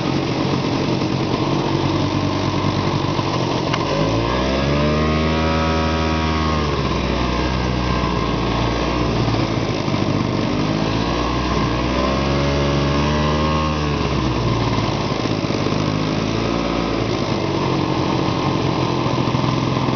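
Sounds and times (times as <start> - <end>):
snowmobile engine running: 0.0 - 19.9.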